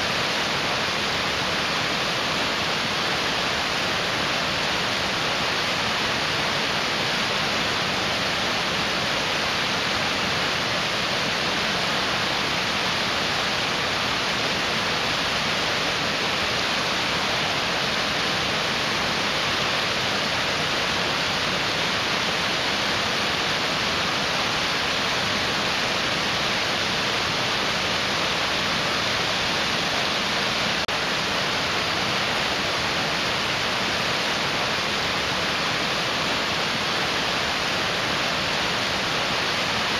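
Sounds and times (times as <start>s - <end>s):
mountain stream roaring: 0.0s - 39.9s.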